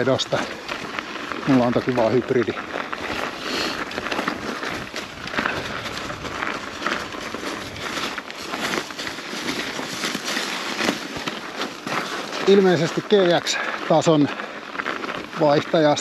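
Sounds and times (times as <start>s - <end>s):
bicycle tyres on trail: 0.0s - 16.0s
small crackles and rattles: 0.0s - 16.0s.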